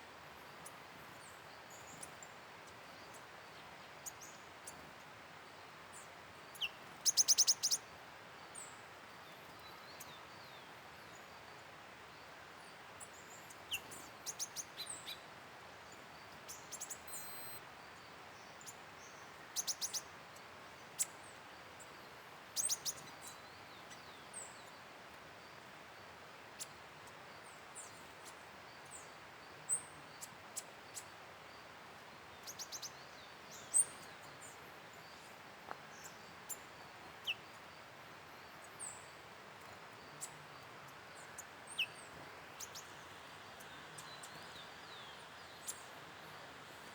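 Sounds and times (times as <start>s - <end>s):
faint hiss: 0.0s - 46.9s.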